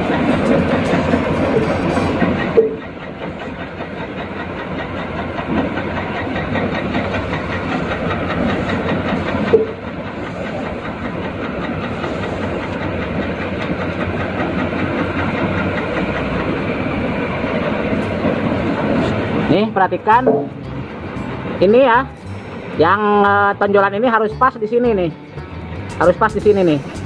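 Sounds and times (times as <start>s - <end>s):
mechanical engine running: 0.0s - 23.6s.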